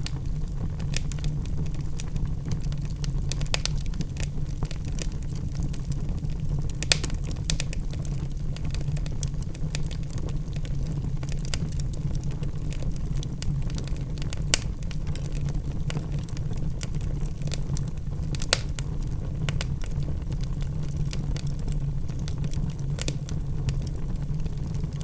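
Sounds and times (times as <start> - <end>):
logs burning in a fireplace: 0.0 - 25.0.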